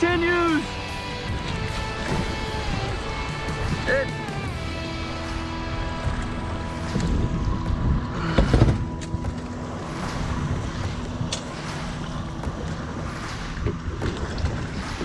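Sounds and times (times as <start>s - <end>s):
water slapping boat hull: 0.4s - 15.0s
wind buffeting microphone: 0.7s - 15.0s.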